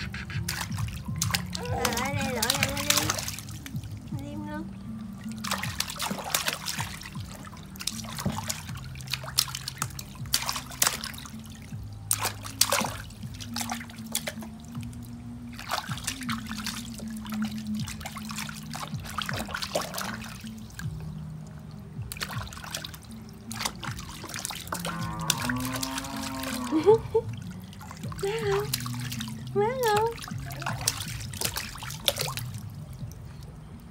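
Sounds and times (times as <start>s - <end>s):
background music low notes: 0.0s - 33.9s
water splashing in basin: 0.0s - 33.9s.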